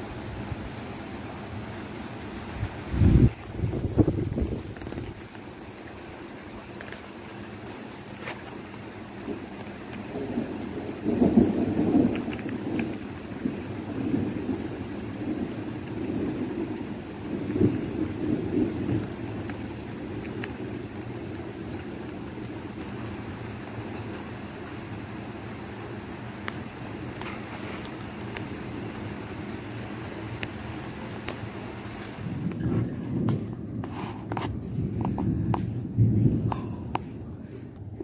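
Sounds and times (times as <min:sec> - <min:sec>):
rain falling on pavement: 0:00.0 - 0:38.0
thunder rolling: 0:02.4 - 0:05.4, 0:09.2 - 0:25.1, 0:25.9 - 0:38.0.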